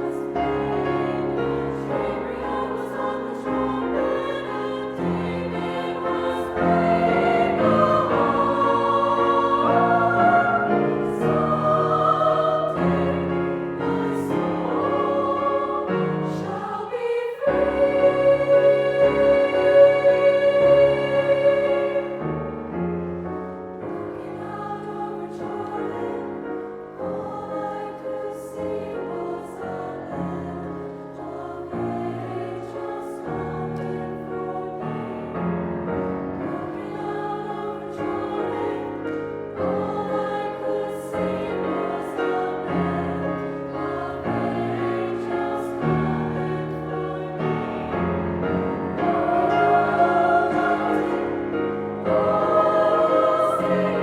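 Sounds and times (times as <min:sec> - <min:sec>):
choir singing: 0:00.0 - 0:54.0
piano accompaniment: 0:00.0 - 0:54.0.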